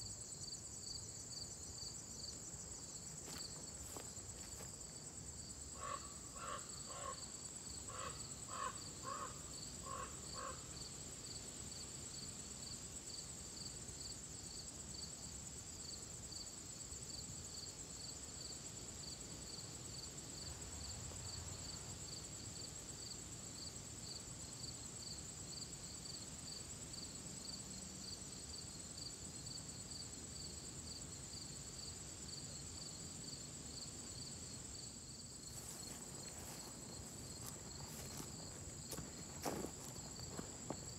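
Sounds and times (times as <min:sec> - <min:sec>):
insect high steady trill: 0:00.0 - 0:11.4, 0:12.1 - 0:40.9.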